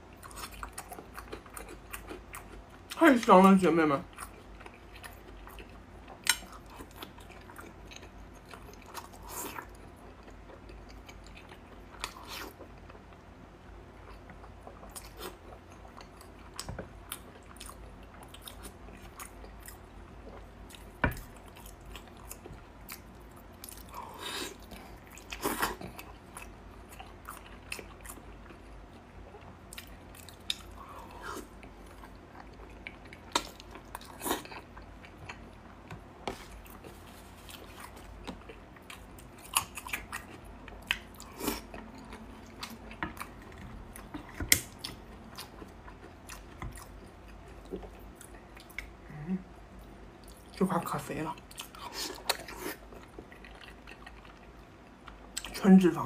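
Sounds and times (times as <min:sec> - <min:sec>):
close chewing and biting: 0:04.1 - 0:13.3, 0:14.0 - 0:48.9, 0:51.4 - 0:55.6.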